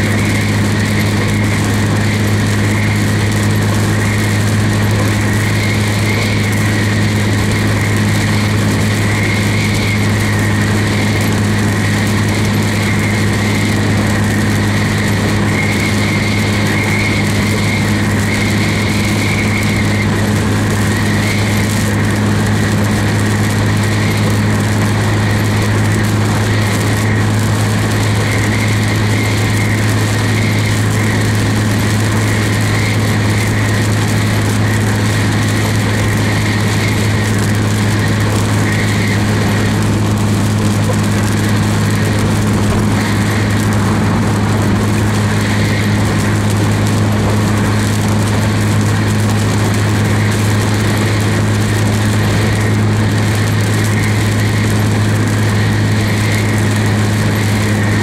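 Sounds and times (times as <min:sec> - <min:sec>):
low engine hum: 0:00.0 - 0:58.0
tyres hissing on wet road: 0:00.0 - 0:58.0.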